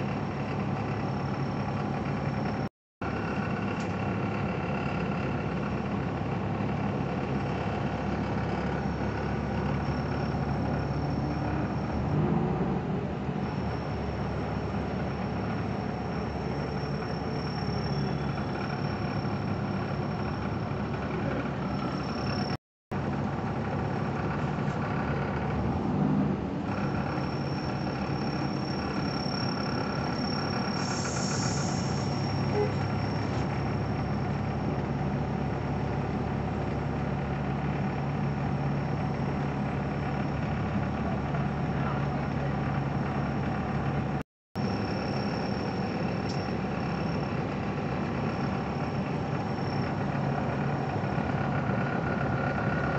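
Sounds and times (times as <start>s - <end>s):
vehicle engine hum from inside: 0.0s - 52.9s.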